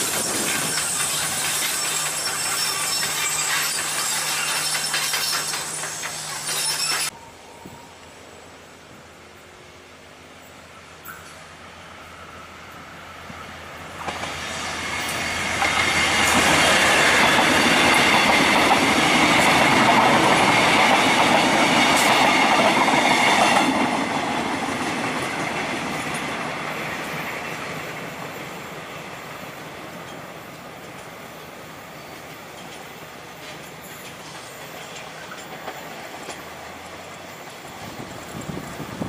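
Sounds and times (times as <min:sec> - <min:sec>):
train rumble: 0:00.0 - 0:39.0
train wheels on rail joints: 0:00.0 - 0:39.0.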